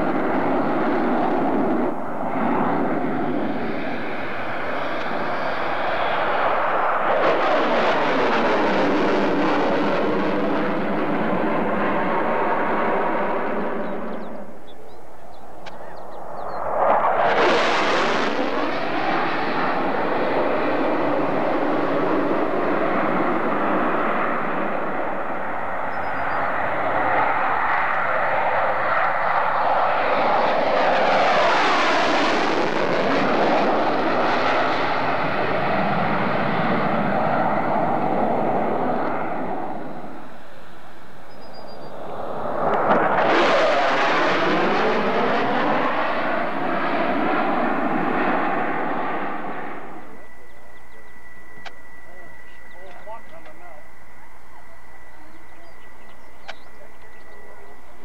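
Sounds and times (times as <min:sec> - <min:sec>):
jet flying past overhead: 0:00.0 - 0:58.0.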